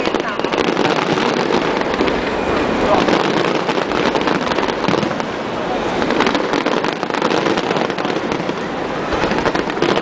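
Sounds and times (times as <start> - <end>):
fireworks popping and banging: 0.0 - 10.0.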